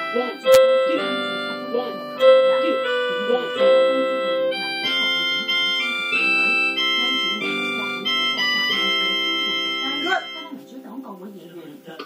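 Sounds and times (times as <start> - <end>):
electronic keyboard notes and chords: 0.0 - 10.7.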